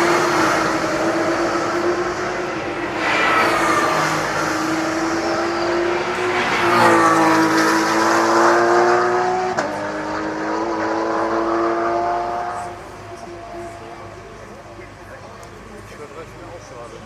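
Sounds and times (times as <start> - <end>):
racing car engines at speed: 0.0 - 17.0.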